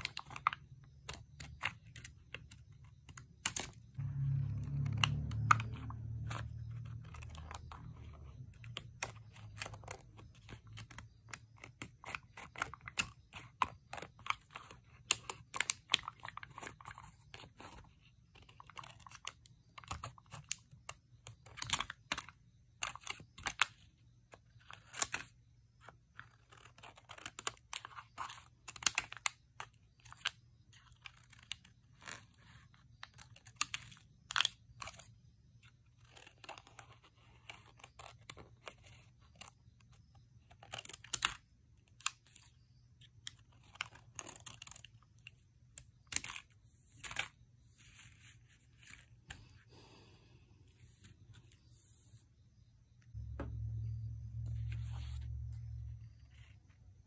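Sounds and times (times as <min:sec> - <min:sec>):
sticker sheets crinkling: 0:00.0 - 0:49.7.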